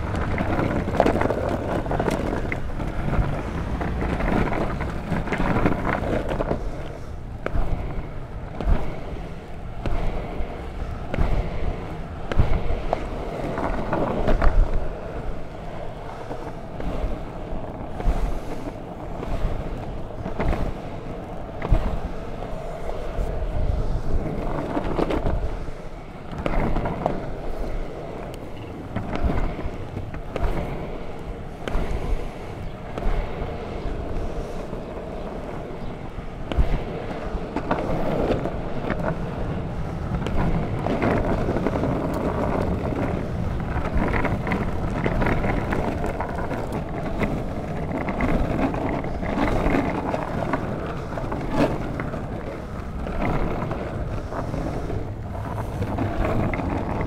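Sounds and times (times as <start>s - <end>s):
skateboard wheels rumbling on asphalt: 0.0s - 57.0s
wind on microphone: 0.0s - 57.0s.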